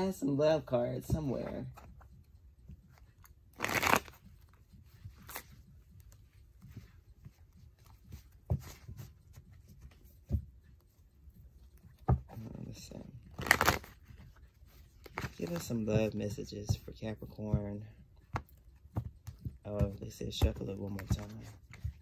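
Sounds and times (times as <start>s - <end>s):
cards shuffling: 0.7s - 10.4s, 11.9s - 16.9s, 18.3s - 22.0s.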